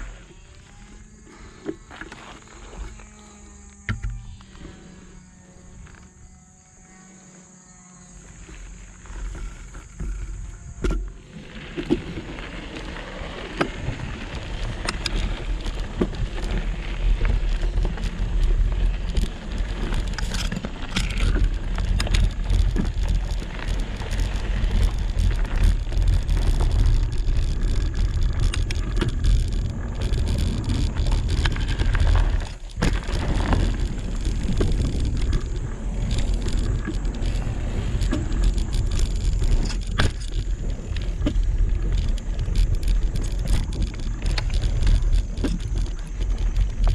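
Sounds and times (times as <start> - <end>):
bike tyres crunching on gravel: 0.0 - 46.9
bike clicks and knocks: 3.7 - 4.6, 9.0 - 46.9
deep rumble: 8.1 - 46.9.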